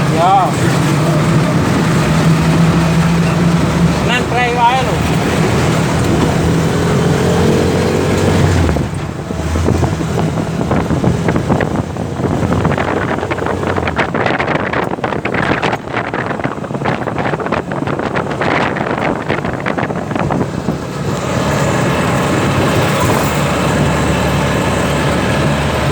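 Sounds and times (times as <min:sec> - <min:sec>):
motor tricycle engine hum: 0:00.0 - 0:25.9
wind buffeting microphone: 0:00.0 - 0:25.9.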